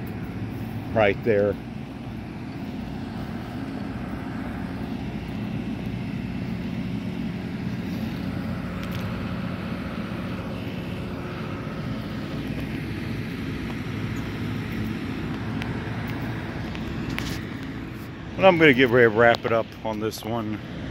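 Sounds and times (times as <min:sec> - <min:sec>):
low engine drone: 0:00.0 - 0:20.9.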